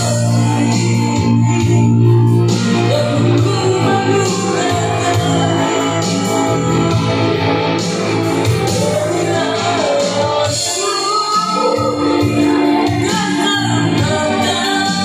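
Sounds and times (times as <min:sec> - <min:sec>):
man singing karaoke: 0:00.0 - 0:15.0
music backing track: 0:00.0 - 0:15.0.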